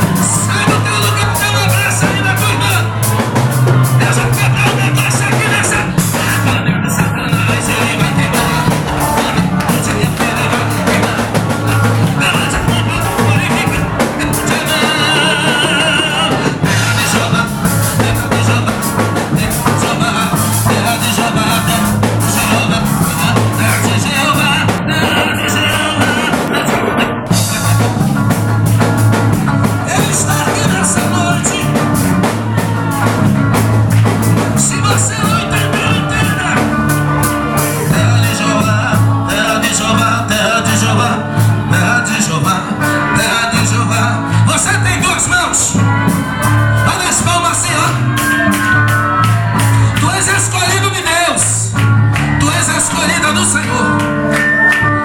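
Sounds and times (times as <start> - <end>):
band music: 0.0 - 55.0
drum kit beat: 0.0 - 55.0
person singing: 0.0 - 55.0.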